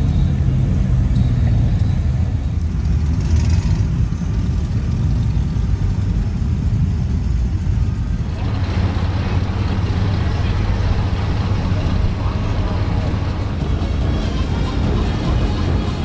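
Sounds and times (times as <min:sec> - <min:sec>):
car engine running: 0:02.6 - 0:16.0.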